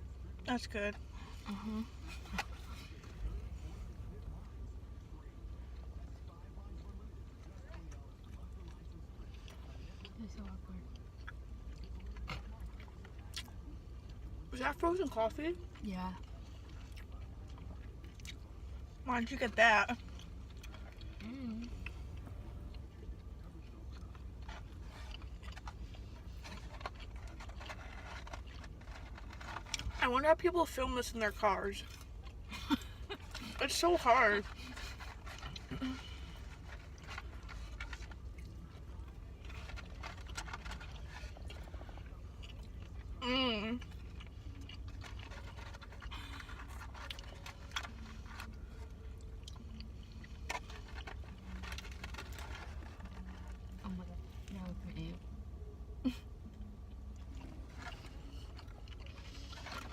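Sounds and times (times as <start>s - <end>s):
steady low rumble: 0.0s - 59.9s
chewing and smacking: 1.0s - 30.0s, 31.8s - 43.2s, 43.8s - 54.8s, 56.4s - 59.9s.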